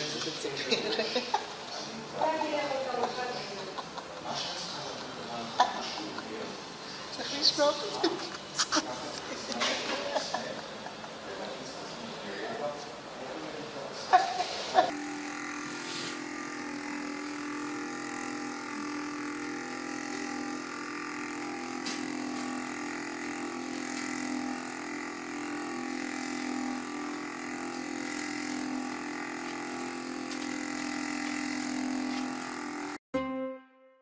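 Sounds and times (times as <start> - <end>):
massager motor humming: 0.0 - 33.1.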